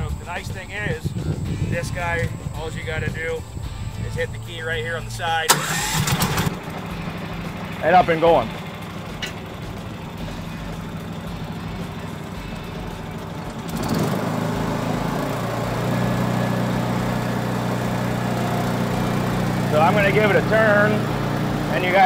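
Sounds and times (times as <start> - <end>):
roller engine running: 0.0 - 22.0.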